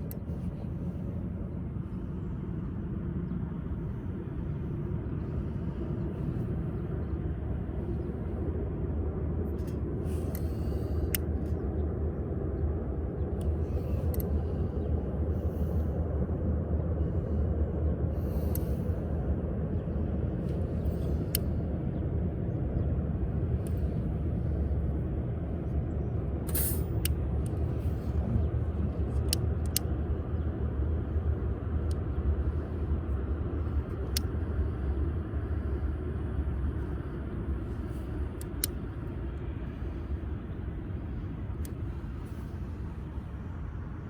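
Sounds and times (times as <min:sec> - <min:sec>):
low fire rumble: 0:00.0 - 0:44.0.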